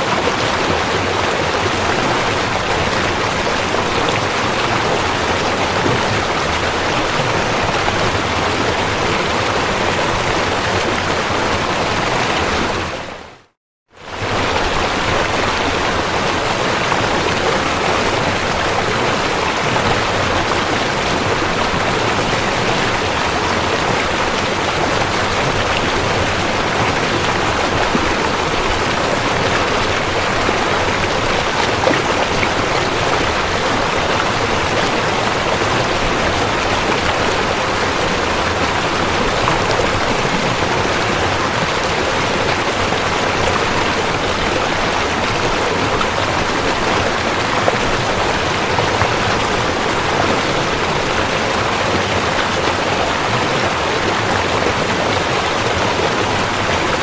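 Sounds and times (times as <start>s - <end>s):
rushing river: 0.0s - 57.0s.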